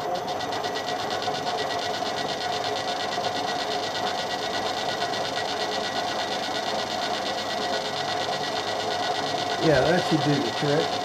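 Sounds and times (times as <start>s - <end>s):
machine tool whirring: 0.0s - 11.0s.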